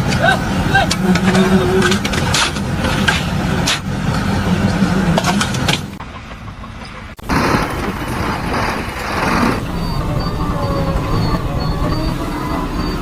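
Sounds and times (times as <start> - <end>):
loud noisy rumble: 0.0 - 13.0.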